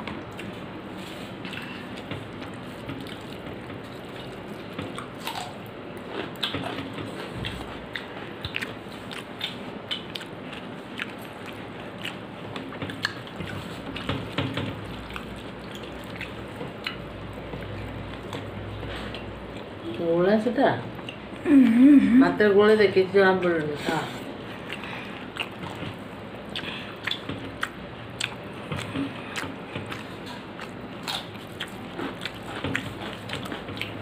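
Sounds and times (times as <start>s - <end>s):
person chewing: 0.2s - 19.9s, 24.2s - 34.0s.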